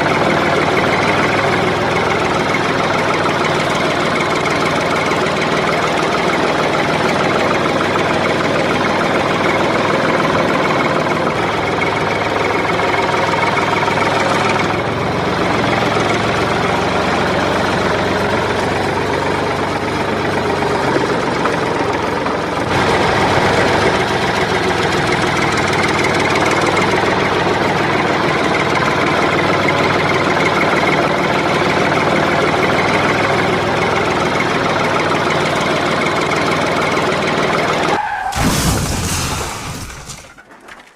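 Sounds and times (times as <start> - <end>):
vehicle engine rattling drone: 0.0 - 40.9.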